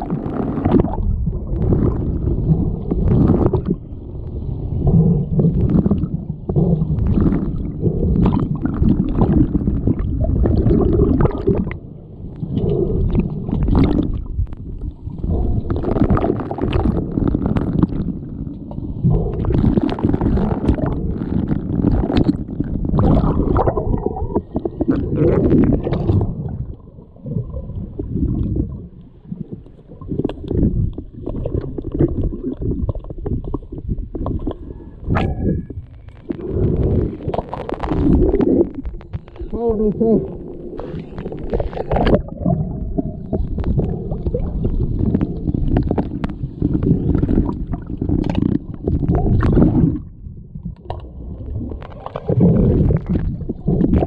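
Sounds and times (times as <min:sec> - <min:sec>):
muffled underwater water rumble: 0:00.0 - 0:54.0.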